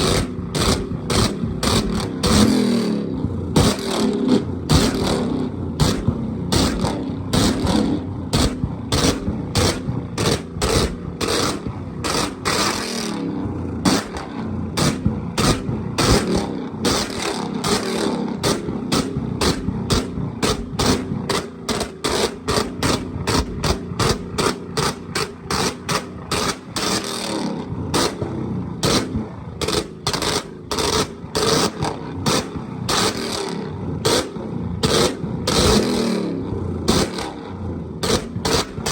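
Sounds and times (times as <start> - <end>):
car engine running: 0.0 - 38.9
exhaust cracks and pops: 0.0 - 38.9.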